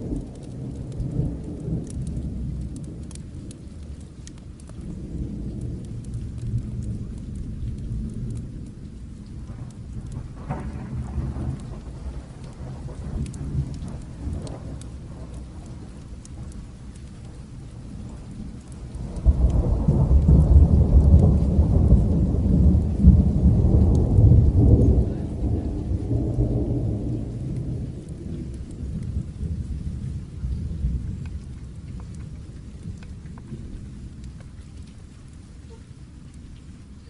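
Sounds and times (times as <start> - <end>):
steady rain: 0.0 - 37.0
thunder rumbling: 0.0 - 37.0.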